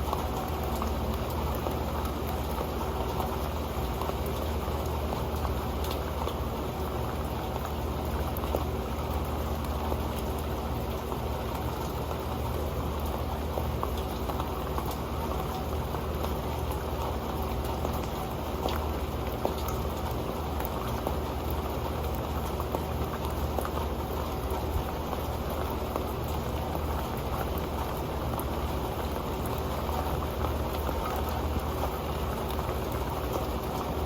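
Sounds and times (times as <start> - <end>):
rain patter: 0.0 - 34.0.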